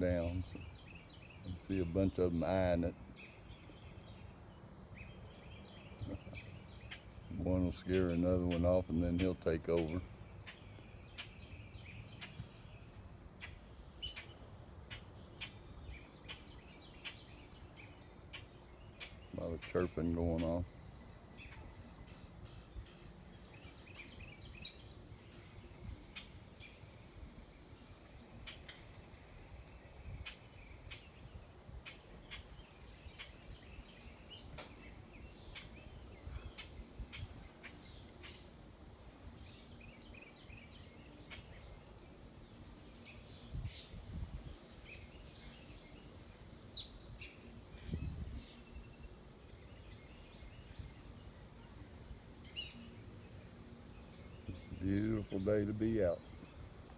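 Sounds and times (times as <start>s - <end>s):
small songbirds chirping: 0.0s - 56.9s.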